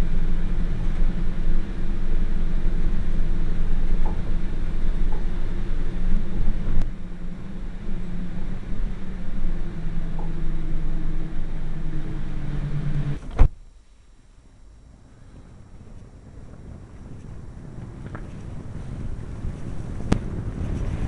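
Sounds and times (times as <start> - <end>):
tram rumble and low hum: 0.0 - 21.0.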